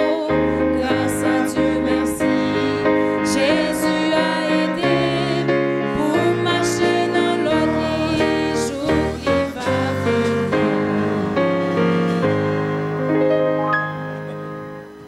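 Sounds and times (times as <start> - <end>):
keyboard playing sustained chords: 0.0 - 15.0.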